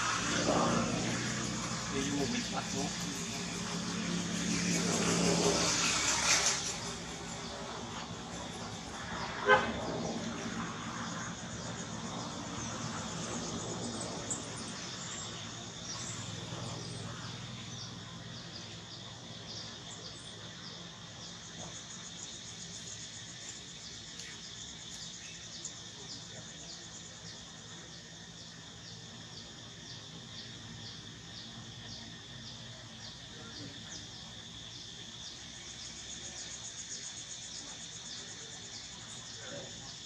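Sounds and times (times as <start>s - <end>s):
insects buzzing: 0.0s - 40.0s
insects chirping: 0.0s - 40.0s.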